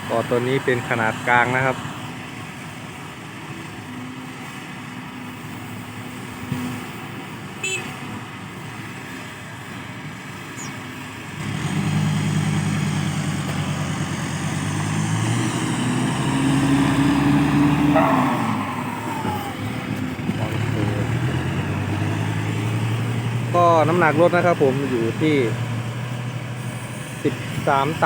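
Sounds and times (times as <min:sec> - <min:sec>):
diesel machinery engine running: 0:00.0 - 0:28.0.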